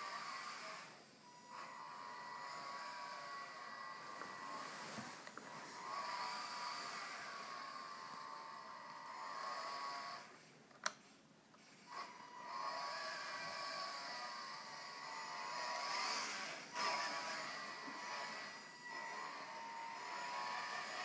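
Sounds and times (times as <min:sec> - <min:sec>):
toy car motor whining: 0:00.0 - 0:10.4, 0:11.6 - 0:21.0.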